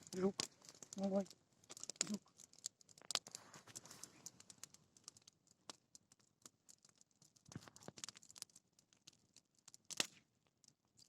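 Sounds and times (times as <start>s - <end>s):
bonfire crackling: 0.0s - 11.0s.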